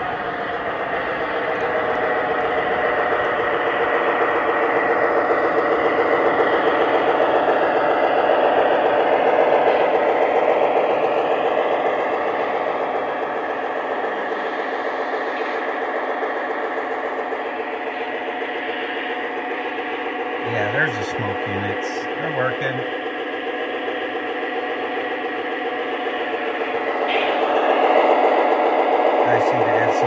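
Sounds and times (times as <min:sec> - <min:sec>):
model trains rattling past: 0:00.0 - 0:30.0.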